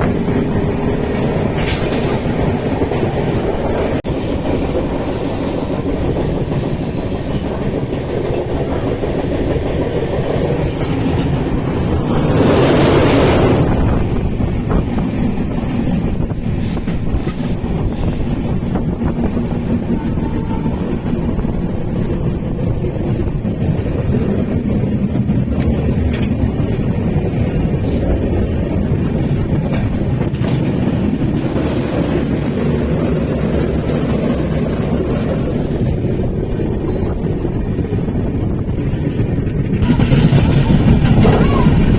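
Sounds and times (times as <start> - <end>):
train rumbling on track: 0.0 - 41.9
wheel clatter on rails: 0.0 - 41.9.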